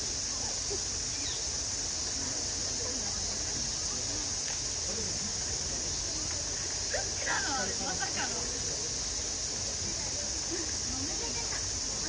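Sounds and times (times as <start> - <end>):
cicadas buzzing: 0.0 - 12.0
faint voices talking: 0.0 - 12.0.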